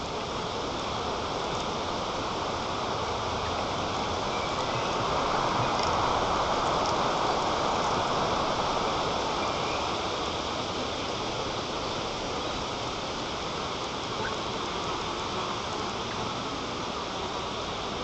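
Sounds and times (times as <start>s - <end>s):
strong wind through treetop: 0.0s - 18.0s.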